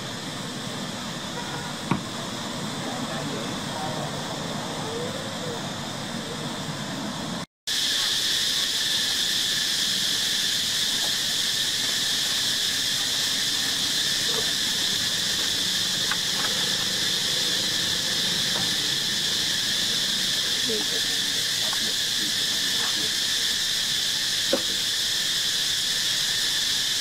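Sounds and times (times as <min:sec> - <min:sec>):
shrill insect drone: 0:00.0 - 0:27.0.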